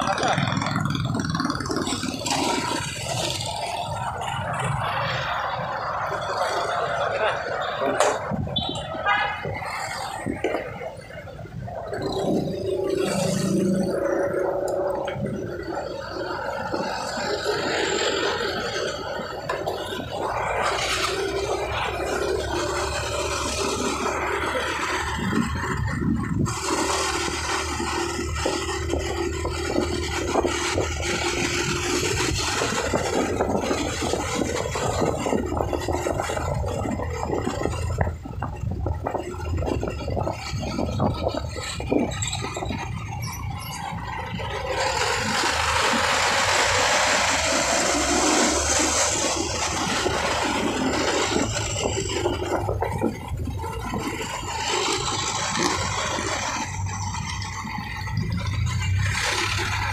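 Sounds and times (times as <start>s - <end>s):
road noise: 0.0s - 59.9s
scooter engine running: 0.0s - 59.9s
wind buffeting microphone: 0.0s - 59.9s.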